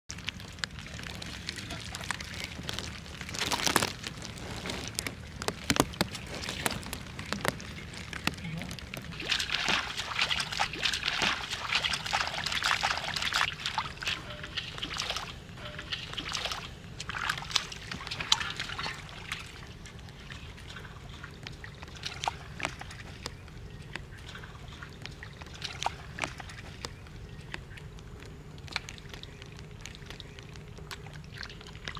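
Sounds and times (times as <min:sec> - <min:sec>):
muddy water sloshing and splashing: 0:00.1 - 0:31.9
water trickling: 0:00.1 - 0:31.9.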